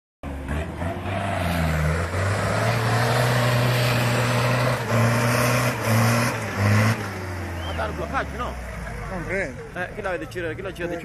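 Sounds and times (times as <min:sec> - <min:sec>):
engine revving under load: 0:00.2 - 0:09.4.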